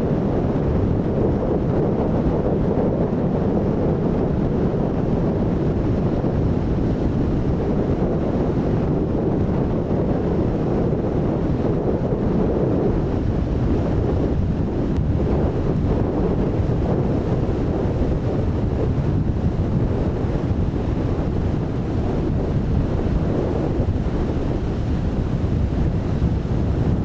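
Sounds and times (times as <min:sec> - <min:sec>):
rough sea: 0:00.0 - 0:27.0
wind rumbling on microphone: 0:00.0 - 0:27.0.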